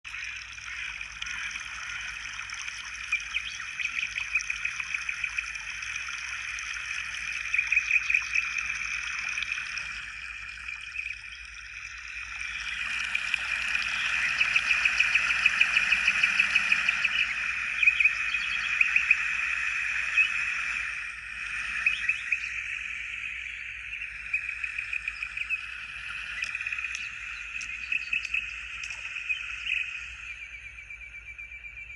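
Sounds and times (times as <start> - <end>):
high-pitched hiss: 4.8 - 30.7.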